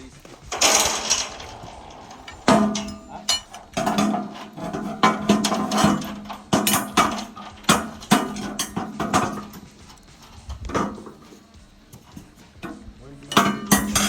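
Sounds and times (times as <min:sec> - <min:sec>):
metallic clanks of steel parts: 0:00.0 - 0:14.0
steady low hum: 0:00.0 - 0:14.0.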